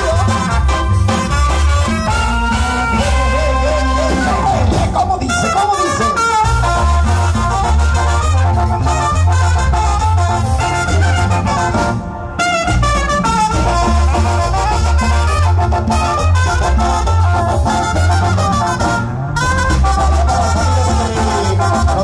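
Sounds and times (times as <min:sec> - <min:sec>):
latin dance music with brass: 0:00.0 - 0:22.0.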